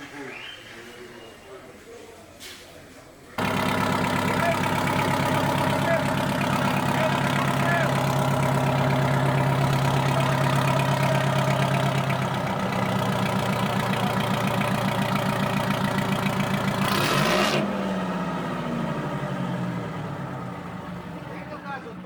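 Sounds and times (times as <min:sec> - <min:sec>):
tractor engine idling: 0:03.4 - 0:22.0.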